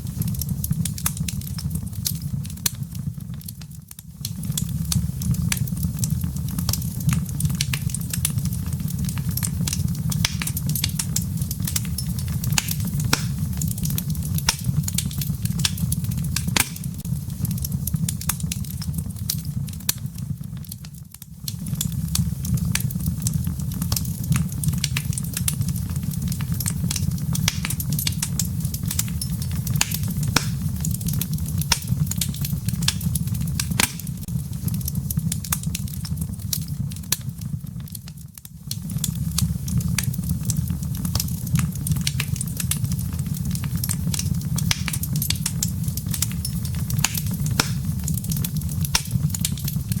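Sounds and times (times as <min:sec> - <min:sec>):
low rumble of flame: 0:00.0 - 0:50.0
wood fire crackling: 0:00.0 - 0:50.0.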